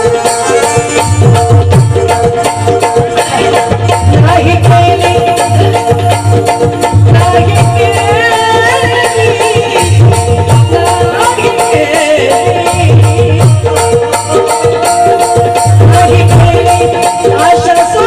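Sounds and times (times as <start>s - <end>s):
percussion beat: 0.0s - 18.0s.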